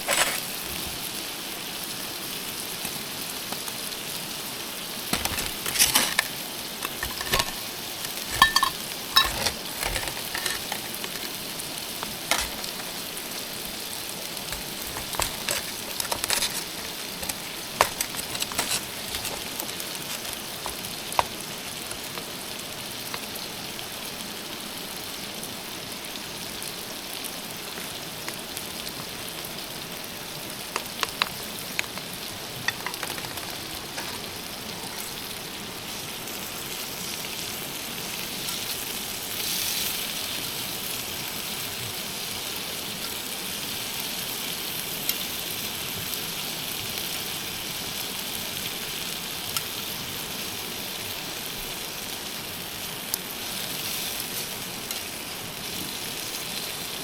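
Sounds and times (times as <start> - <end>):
food sizzling in frying: 0.0 - 57.0.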